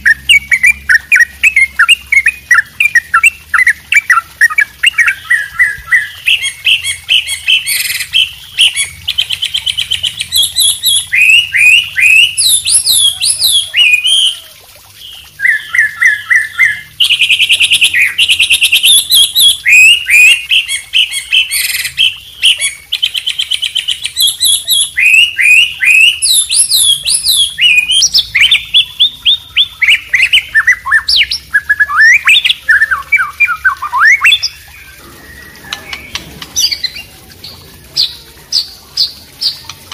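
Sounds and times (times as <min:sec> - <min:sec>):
birds singing whistles and trills: 0:00.0 - 0:39.8.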